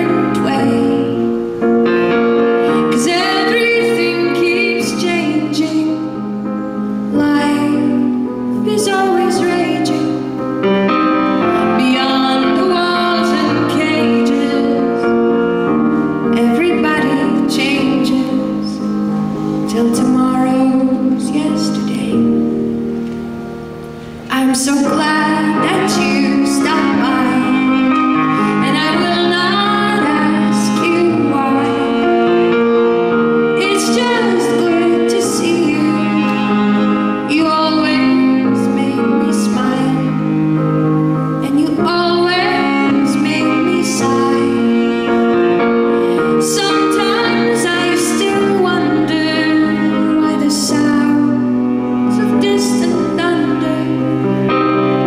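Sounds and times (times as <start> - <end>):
woman singing: 0.0 - 1.5, 2.5 - 6.3, 7.0 - 10.4, 11.3 - 22.6, 24.3 - 40.4, 41.4 - 45.3, 46.0 - 54.3
grand piano: 0.0 - 55.0.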